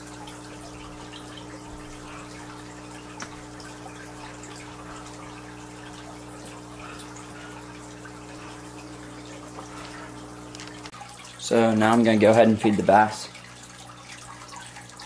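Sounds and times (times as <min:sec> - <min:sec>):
aquarium filter hum: 0:00.0 - 0:15.0
water trickling and dripping: 0:00.0 - 0:15.0.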